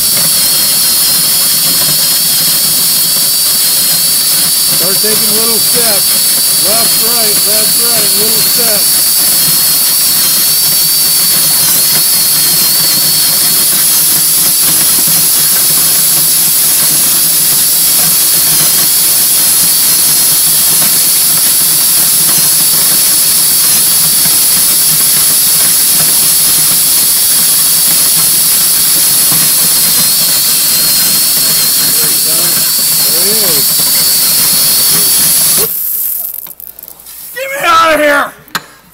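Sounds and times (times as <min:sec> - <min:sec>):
cordless drill whirring: 0:00.0 - 0:36.7.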